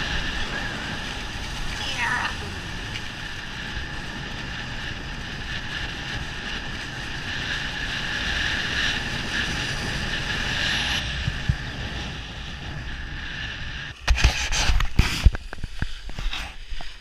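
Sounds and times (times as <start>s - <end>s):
skis sliding over snow: 0.0s - 12.8s, 13.9s - 17.0s
wind on microphone: 0.0s - 17.0s.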